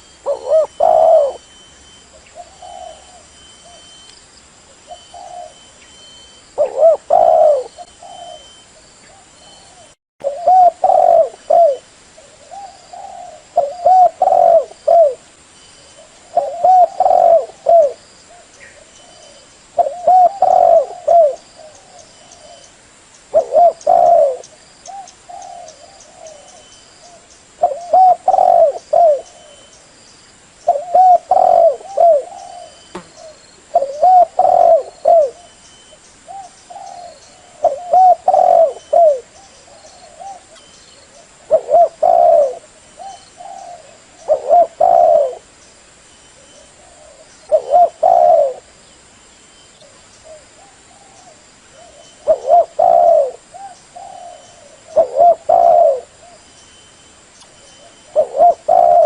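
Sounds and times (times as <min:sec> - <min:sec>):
dove cooing: 0:00.0 - 0:01.5, 0:02.1 - 0:03.9, 0:04.8 - 0:05.8, 0:06.6 - 0:15.2, 0:16.0 - 0:22.7, 0:23.3 - 0:29.8, 0:30.7 - 0:35.6, 0:36.3 - 0:45.5, 0:46.4 - 0:48.8, 0:49.8 - 0:56.5, 0:57.7 - 0:59.0.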